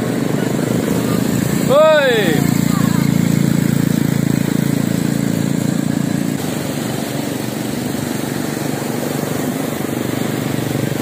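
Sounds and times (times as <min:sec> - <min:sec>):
quad bike engine driving on sand: 0:00.0 - 0:11.0.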